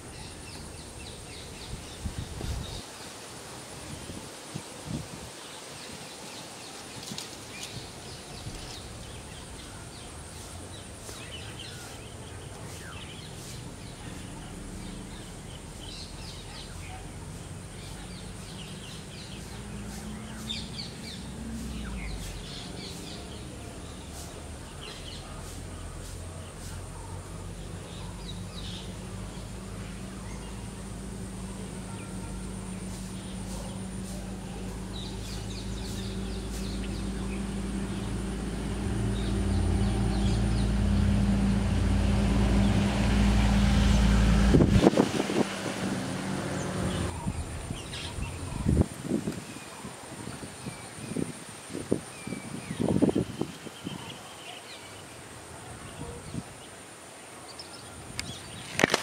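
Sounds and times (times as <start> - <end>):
steady background hiss: 0.0 - 59.0
birds chirping: 4.8 - 59.0.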